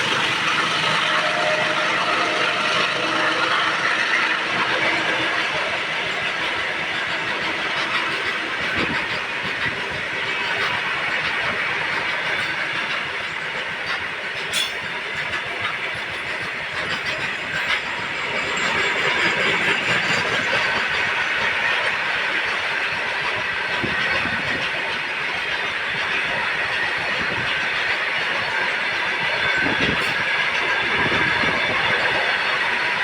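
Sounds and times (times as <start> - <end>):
freight train wheels on rails: 0.0 - 33.0.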